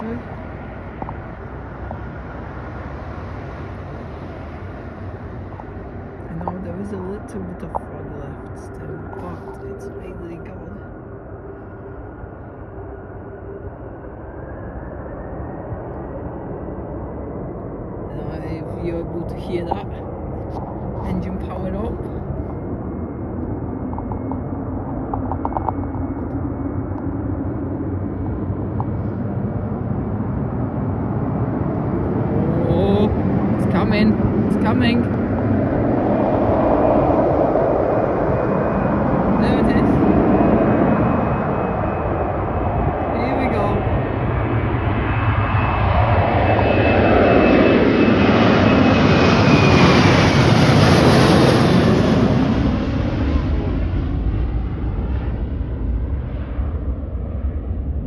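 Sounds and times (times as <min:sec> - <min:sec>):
faint falling whine: 0:00.0 - 0:52.2
jet engines distant rumble: 0:00.0 - 0:58.0.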